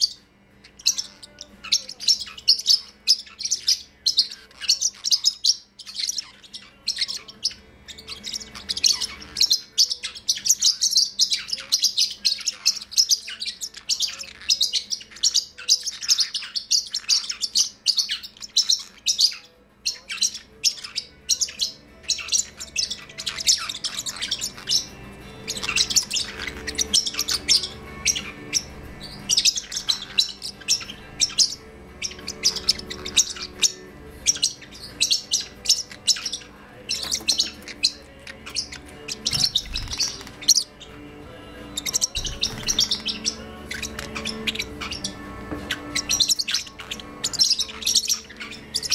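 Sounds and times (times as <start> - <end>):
parrotlets chirping: 0.0 - 48.9.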